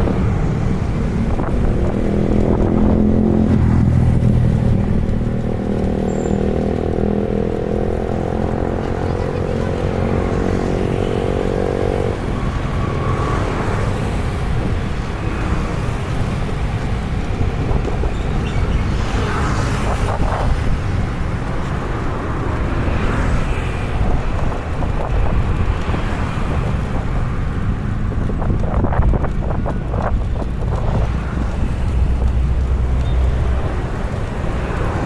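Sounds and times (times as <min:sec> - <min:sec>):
low traffic rumble: 0:00.0 - 0:35.0
vehicles passing: 0:00.0 - 0:35.0.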